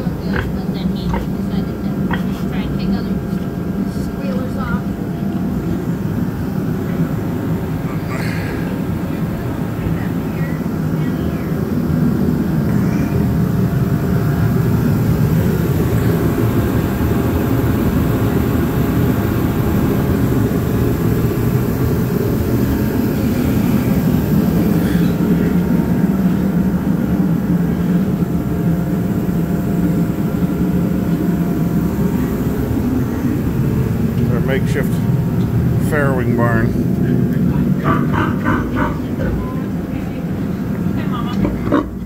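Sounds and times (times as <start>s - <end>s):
heater fan humming: 0.0s - 42.0s.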